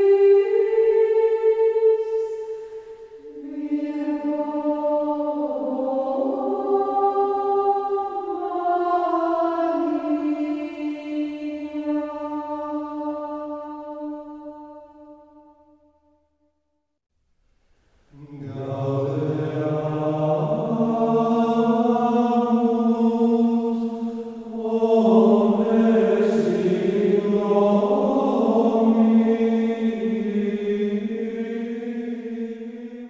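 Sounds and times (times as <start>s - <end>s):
slow chanted singing: 0.0s - 16.0s, 17.7s - 33.0s.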